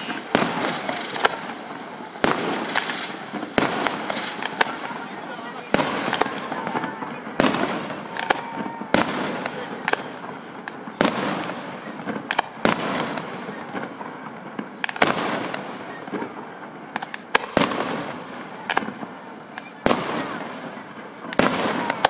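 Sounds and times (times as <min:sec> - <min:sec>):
fireworks bangs: 0:00.0 - 0:22.0
fireworks pops and crackling: 0:00.0 - 0:22.0.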